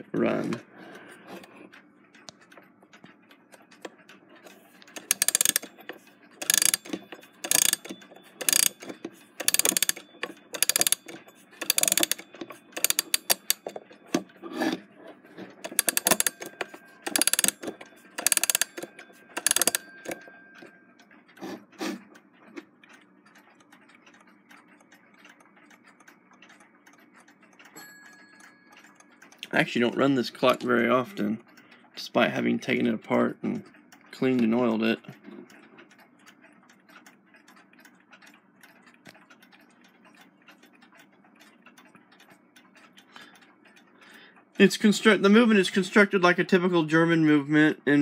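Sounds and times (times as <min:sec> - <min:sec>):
clock ticking faintly: 0:00.0 - 0:48.0
alarm clock winding ratchet clicks: 0:01.7 - 0:21.4, 0:22.1 - 0:48.0.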